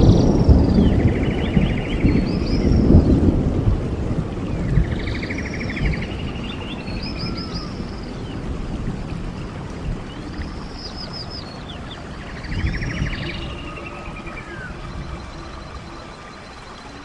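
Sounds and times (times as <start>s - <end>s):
songbirds singing: 0.0s - 3.4s, 4.3s - 8.6s, 9.2s - 17.0s
stream water running: 0.0s - 17.0s.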